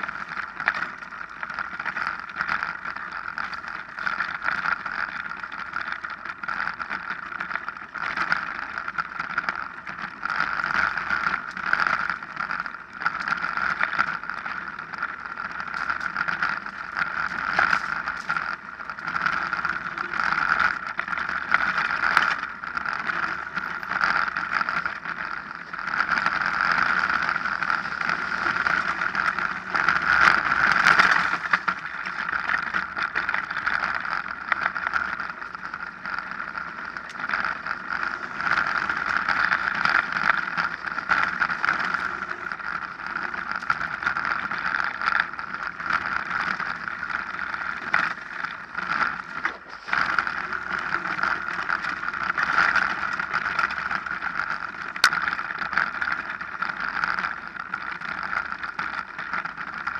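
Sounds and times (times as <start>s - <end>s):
bike rattling over bumps: 0.0s - 59.9s
bike tyres on dirt trail: 0.0s - 59.9s.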